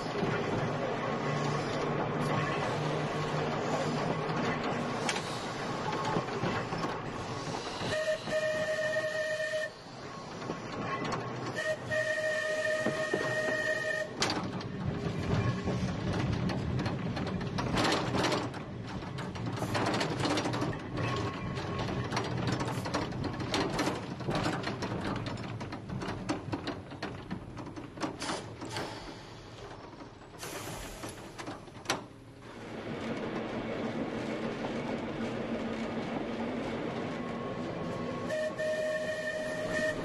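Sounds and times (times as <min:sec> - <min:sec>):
tram rumbling on rails: 0:00.0 - 0:40.0.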